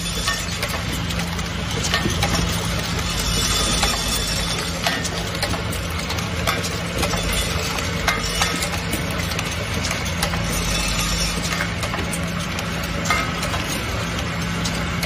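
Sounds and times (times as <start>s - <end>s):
filling machine humming: 0.0s - 15.0s.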